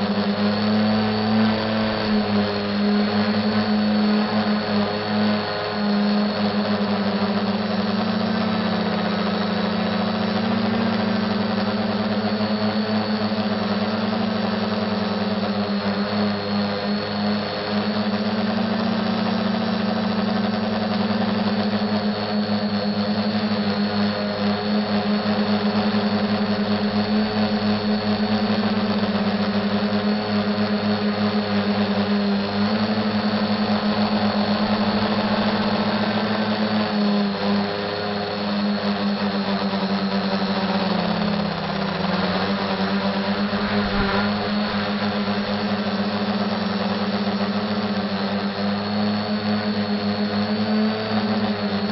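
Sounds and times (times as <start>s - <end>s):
quadcopter propellers whirring: 0.0s - 51.9s.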